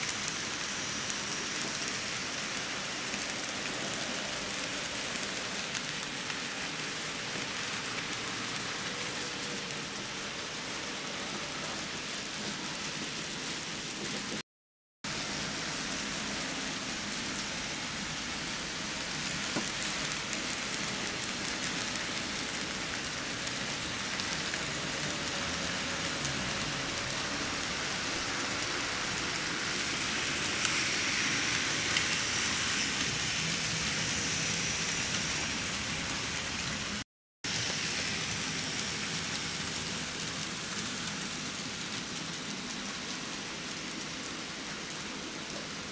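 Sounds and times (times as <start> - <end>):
steady hiss like rain: 0.0 - 14.4, 15.1 - 45.9.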